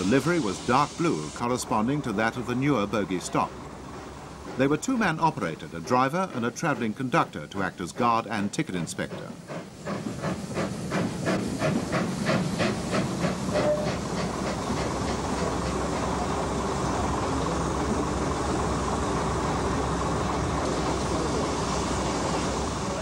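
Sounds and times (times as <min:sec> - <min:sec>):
steam hissing: 0:00.0 - 0:23.0
steam locomotive exhaust beats: 0:00.0 - 0:23.0.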